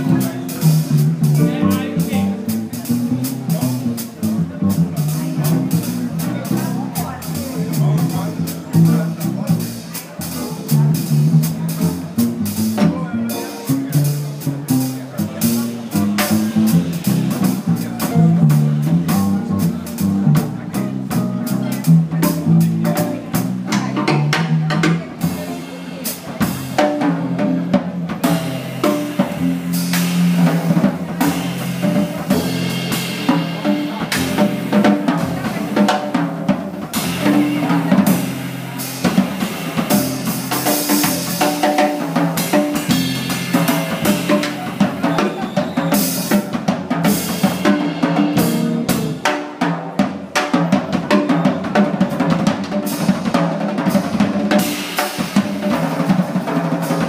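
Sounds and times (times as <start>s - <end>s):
double bass low notes: 0.0s - 49.3s
jazz drum kit playing: 0.0s - 57.0s.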